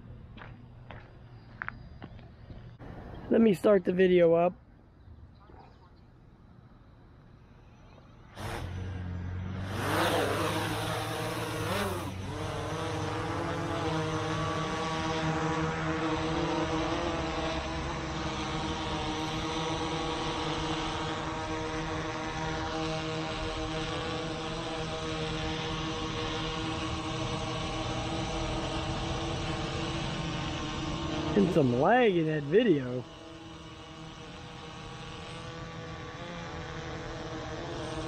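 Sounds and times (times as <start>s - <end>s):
drone propellers humming: 6.3s - 38.0s.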